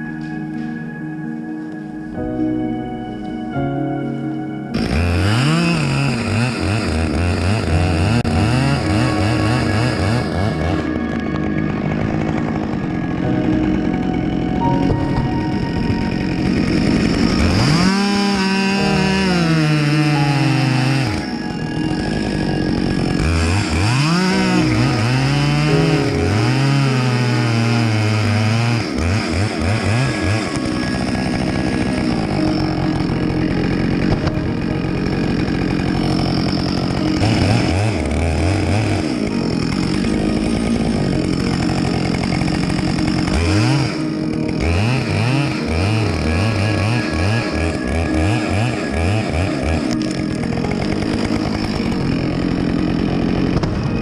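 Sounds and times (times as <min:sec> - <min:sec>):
chainsaw revving: 0:04.7 - 0:54.0.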